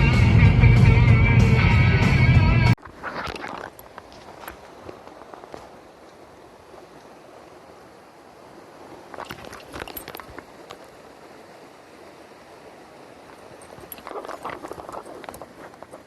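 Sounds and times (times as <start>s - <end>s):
mountain stream running: 2.8s - 16.0s.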